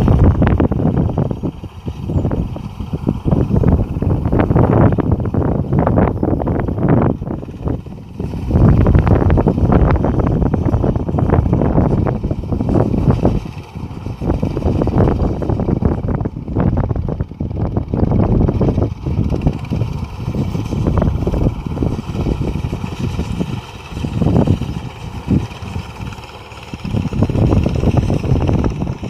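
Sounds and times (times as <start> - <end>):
harvesting machine engine rumbling: 0.0 - 29.0
wind buffeting microphone: 0.0 - 29.0.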